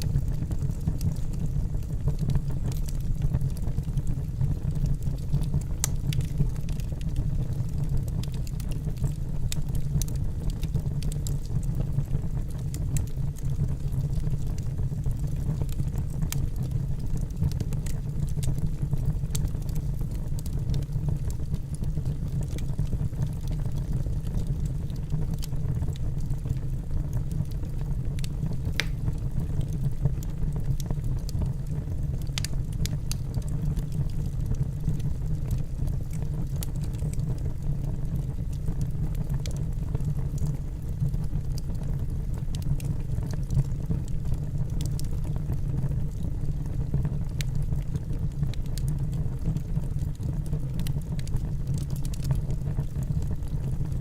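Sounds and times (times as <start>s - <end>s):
burning logs crackling: 0.0s - 54.0s
fire low rumble: 0.0s - 54.0s.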